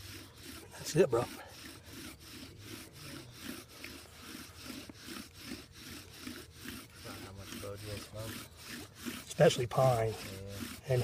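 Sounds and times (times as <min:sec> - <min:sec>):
bow drill spindle rasping: 0:00.0 - 0:11.0.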